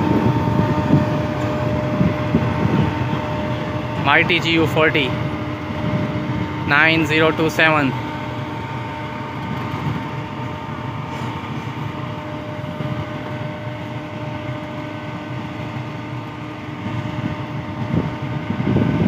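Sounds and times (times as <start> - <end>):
diesel locomotive idling: 0.0 - 19.0.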